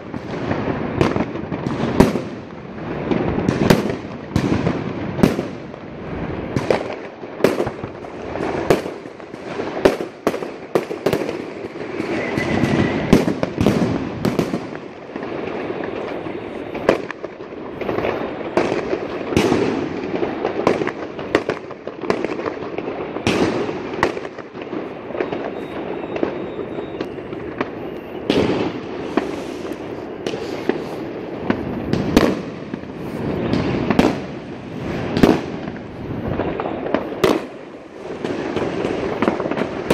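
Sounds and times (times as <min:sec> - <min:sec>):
distant fireworks explosions: 0:00.0 - 0:39.9
fireworks bangs: 0:00.0 - 0:39.9
fireworks crackling: 0:00.0 - 0:39.9.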